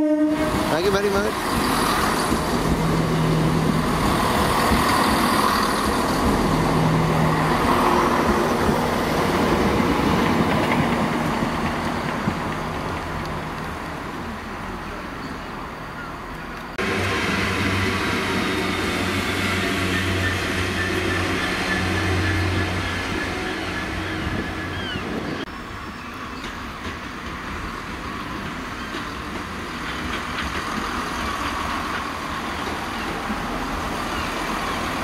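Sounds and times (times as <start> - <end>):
diesel locomotive engine drone: 0.0 - 35.0
passenger trains rumbling: 0.0 - 35.0.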